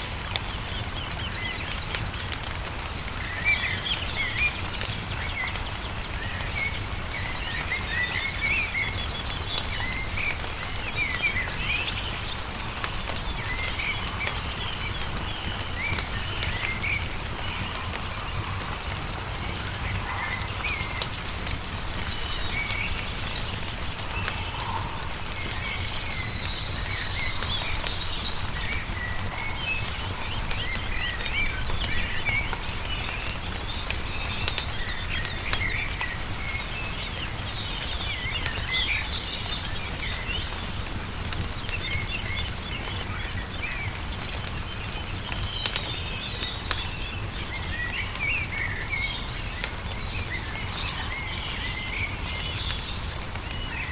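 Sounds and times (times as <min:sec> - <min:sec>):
songbirds chirping and singing: 0:00.0 - 0:53.9
wood fire crackling and popping: 0:00.0 - 0:53.9.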